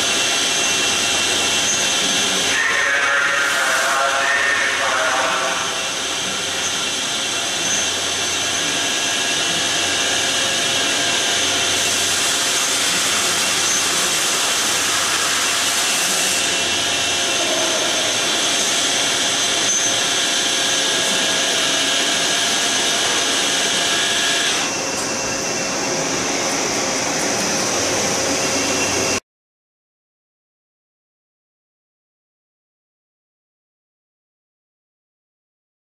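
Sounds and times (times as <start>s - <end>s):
lathe machining whir and hiss: 0.0s - 29.2s.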